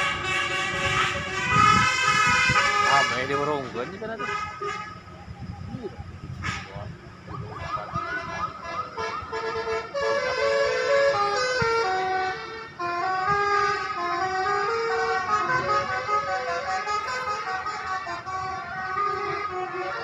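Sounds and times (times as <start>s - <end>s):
musical vehicle horn tune: 0.0s - 20.0s.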